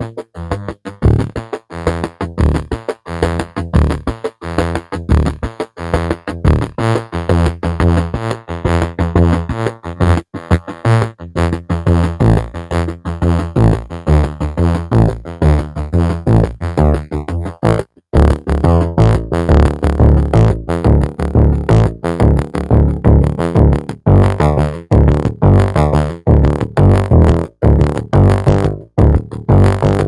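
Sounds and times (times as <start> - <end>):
synthesizer bass notes: 0.0 - 30.0
synthesizer plucked notes: 0.0 - 30.0.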